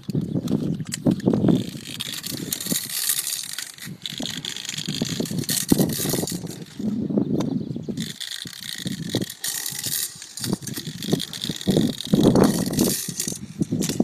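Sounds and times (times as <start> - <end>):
hand pump rushing hiss: 1.1 - 6.9, 8.0 - 14.0.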